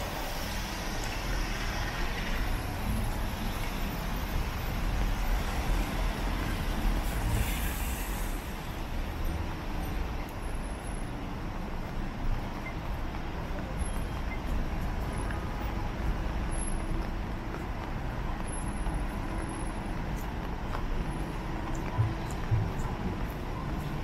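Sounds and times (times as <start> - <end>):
traffic on wet street: 0.0 - 24.0.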